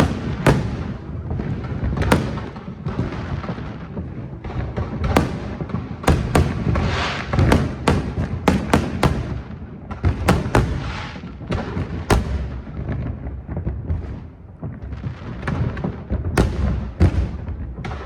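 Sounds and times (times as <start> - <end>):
fireworks sharp bangs: 0.0 - 18.0
low rumble of booms: 0.0 - 18.0.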